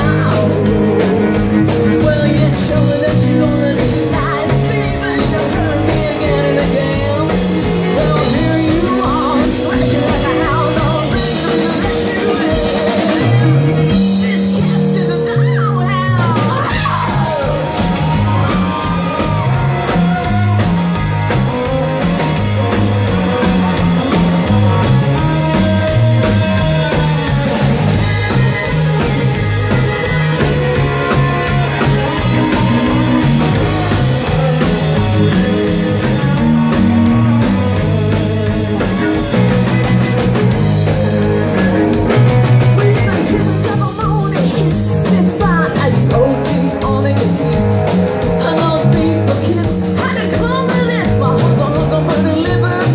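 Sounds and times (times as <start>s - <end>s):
live rock band playing: 0.0s - 52.9s
woman singing lead: 0.0s - 52.9s.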